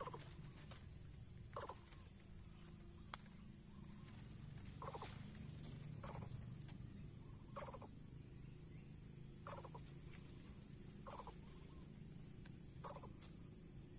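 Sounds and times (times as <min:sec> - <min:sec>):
insects droning: 0:00.0 - 0:13.9.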